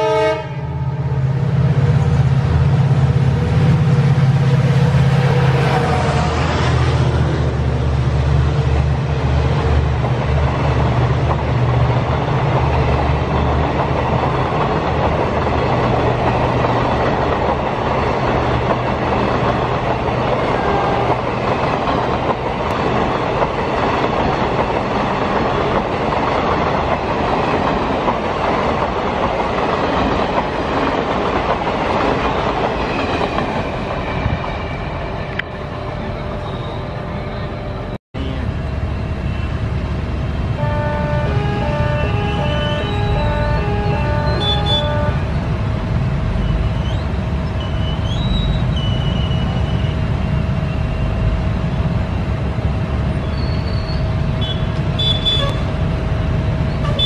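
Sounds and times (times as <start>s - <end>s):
locomotive drone: 0.0s - 57.0s.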